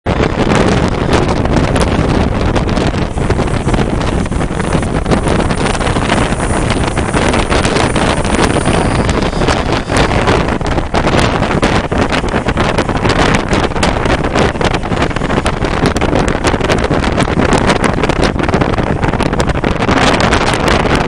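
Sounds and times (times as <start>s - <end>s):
wind buffeting microphone: 0.0s - 21.0s
passenger train rolling: 0.1s - 21.0s.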